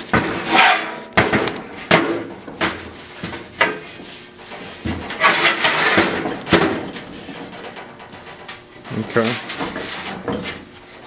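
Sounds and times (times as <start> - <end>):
objects knocking and clattering: 0.0 - 10.7.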